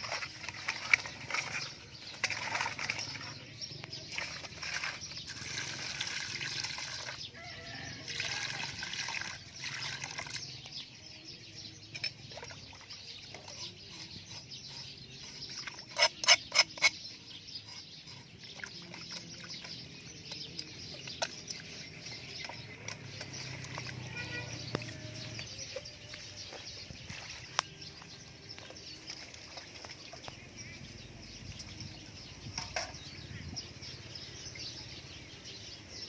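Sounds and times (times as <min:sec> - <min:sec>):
water splashing in a steel bowl: 0:00.0 - 0:10.8, 0:11.9 - 0:17.0, 0:17.9 - 0:33.4.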